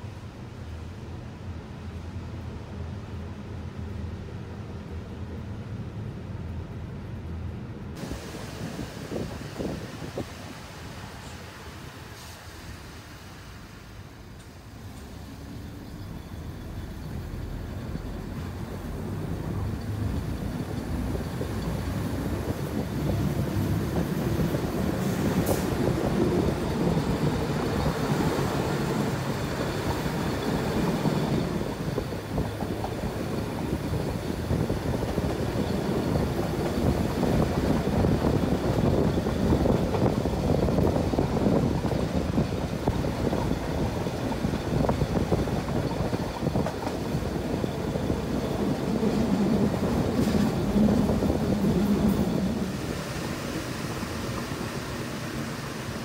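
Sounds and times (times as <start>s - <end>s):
railcar running on track: 0.0s - 56.0s.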